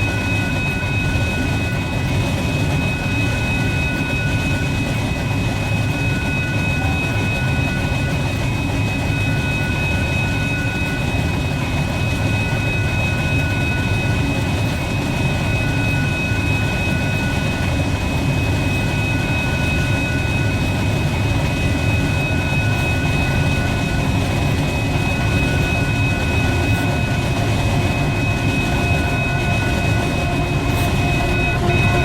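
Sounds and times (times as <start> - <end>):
freight train rumbling past: 0.0 - 32.0
thin high whine: 0.0 - 32.0.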